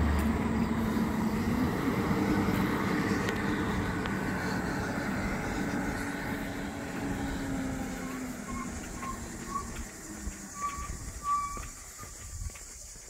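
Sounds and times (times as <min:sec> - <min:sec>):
vehicle driving away: 0:00.0 - 0:12.5
tyre noise on road: 0:00.0 - 0:13.0.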